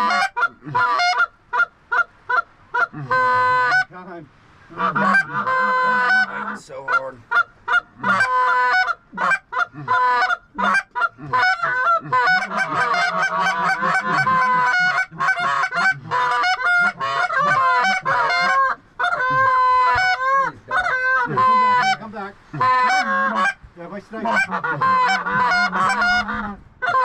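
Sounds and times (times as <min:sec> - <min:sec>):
geese honking: 0:00.0 - 0:04.0, 0:04.7 - 0:27.0.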